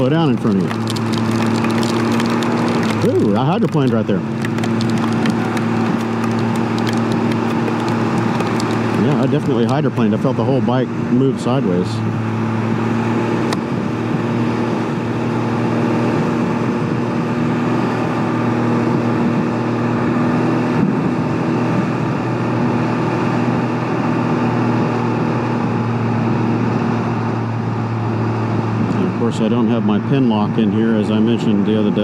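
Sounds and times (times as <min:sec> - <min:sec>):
engine humming: 0:00.0 - 0:32.0
tyres on wet road: 0:00.0 - 0:32.0.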